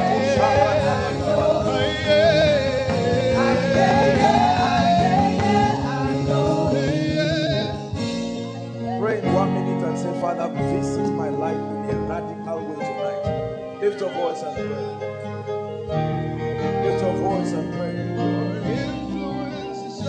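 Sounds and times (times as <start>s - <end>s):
person singing: 0.0s - 15.0s, 16.8s - 20.0s
sustained instrumental chords: 0.0s - 20.0s.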